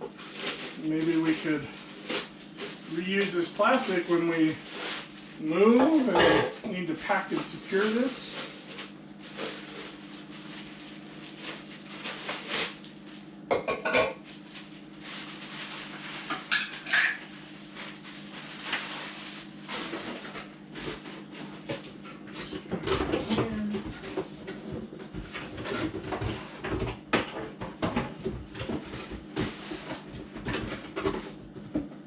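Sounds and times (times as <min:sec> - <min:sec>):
plastic rustling and crinkling: 0:00.0 - 0:13.3, 0:13.9 - 0:26.9.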